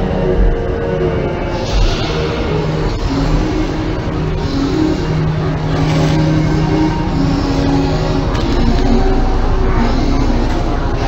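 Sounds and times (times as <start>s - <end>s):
low steady drone: 0.0s - 11.0s.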